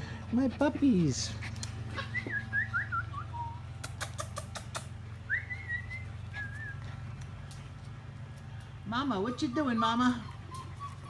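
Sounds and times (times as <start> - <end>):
puppies whining: 0.0 - 7.3, 8.9 - 11.0.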